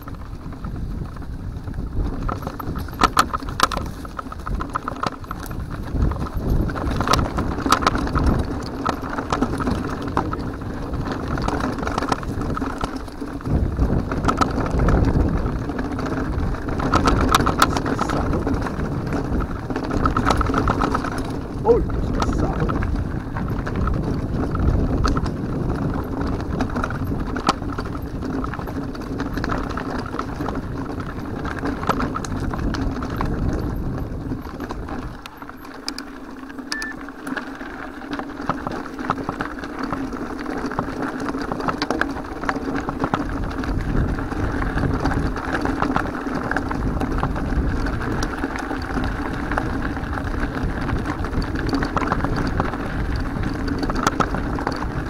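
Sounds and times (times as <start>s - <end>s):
bike rattling and knocking: 0.0s - 55.0s
bike tyre rumble on gravel: 0.0s - 55.0s.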